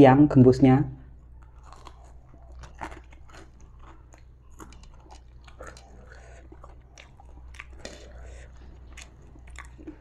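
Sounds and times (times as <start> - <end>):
low steady hum: 0.0 - 10.0
crisp chewing crunches: 1.1 - 10.0.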